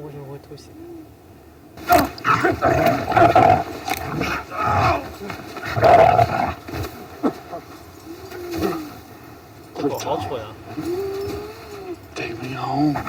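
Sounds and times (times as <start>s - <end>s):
animal vocal sounds from speaker: 1.8s - 13.0s.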